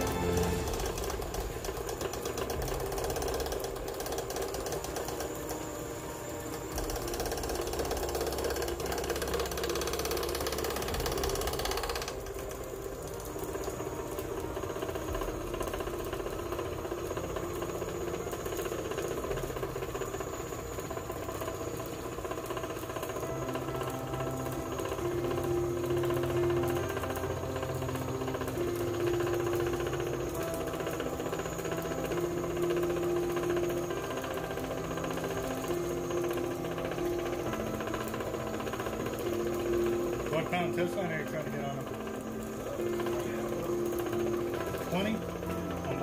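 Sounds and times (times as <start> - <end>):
line winder whirring and rattling: 0.0 - 46.0.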